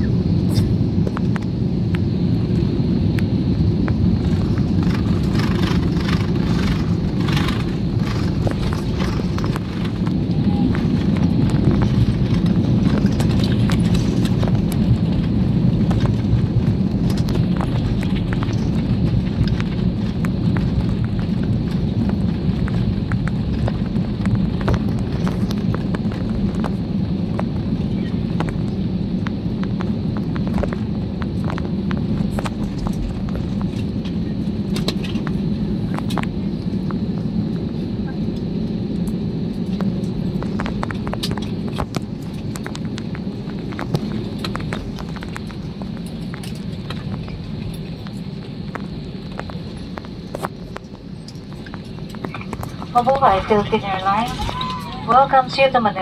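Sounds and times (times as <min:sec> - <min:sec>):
wheels and engines rumbling: 0:00.0 - 0:56.0.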